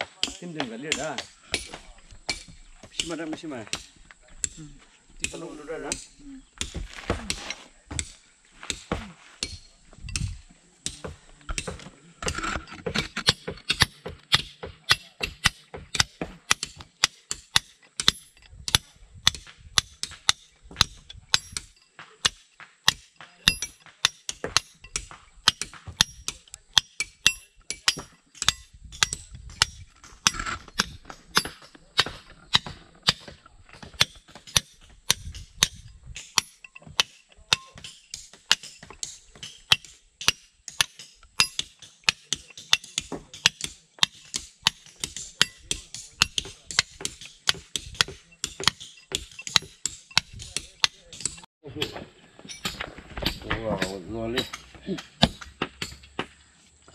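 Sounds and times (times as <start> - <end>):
hand tool strikes: 0.0 - 56.4.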